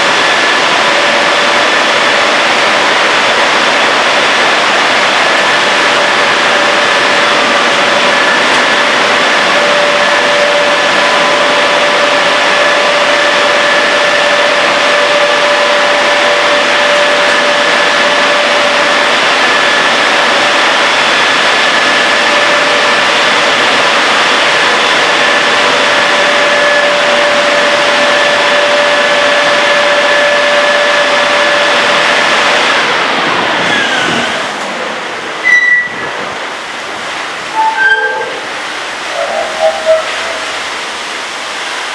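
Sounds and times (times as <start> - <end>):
drying blowers rushing air: 0.0 - 41.9
high fan whine: 0.0 - 41.9.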